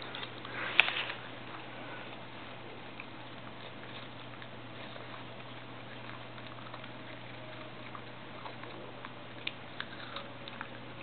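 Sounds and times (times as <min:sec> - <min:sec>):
dog sniffing and nibbling: 0:00.0 - 0:11.0
low room noise: 0:00.0 - 0:11.0.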